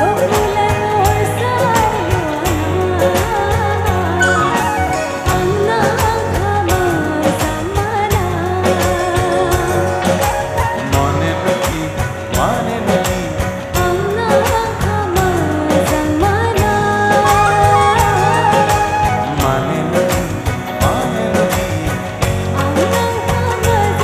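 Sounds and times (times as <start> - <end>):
electric guitar: 0.0 - 24.0
person singing: 0.0 - 24.0.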